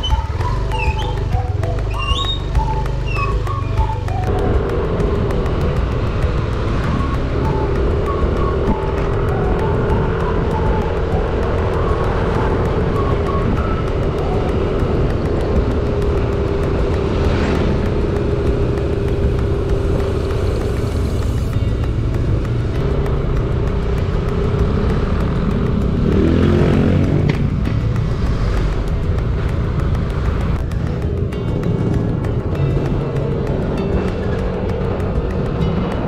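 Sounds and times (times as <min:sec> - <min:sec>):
road noise: 0:00.0 - 0:36.0
scooter engine: 0:00.0 - 0:36.0.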